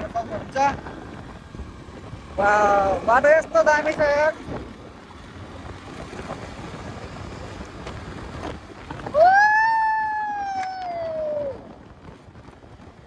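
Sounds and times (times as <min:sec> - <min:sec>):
wind and road rush: 0:00.0 - 0:13.0.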